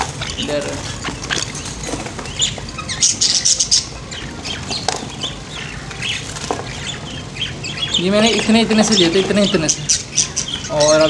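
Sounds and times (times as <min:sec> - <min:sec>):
wing flapping: 0:00.0 - 0:10.5.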